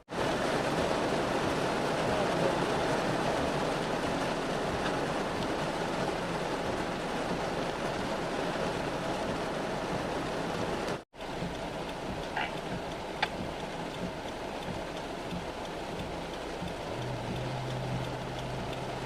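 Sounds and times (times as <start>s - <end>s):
heavy rain: 0.0s - 19.0s
running water: 0.0s - 19.0s.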